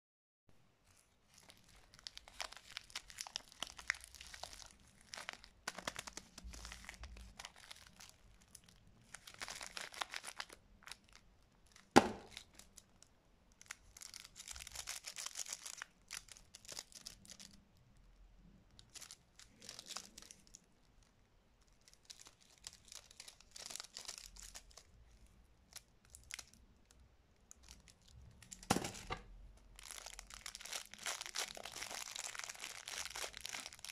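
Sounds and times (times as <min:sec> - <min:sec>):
cellophane wrappers crinkling: 0:00.8 - 0:33.9.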